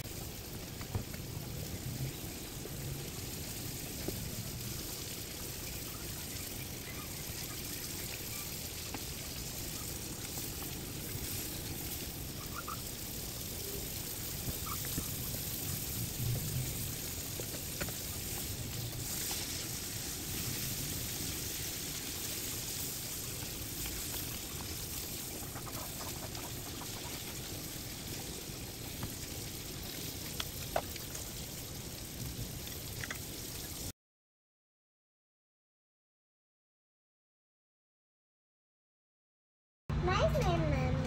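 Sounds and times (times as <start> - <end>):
meat sizzling in oil: 0.0 - 33.9.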